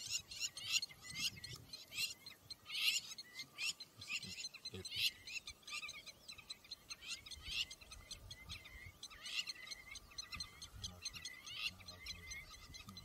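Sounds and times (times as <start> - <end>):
wild dogs twittering: 0.0 - 13.0.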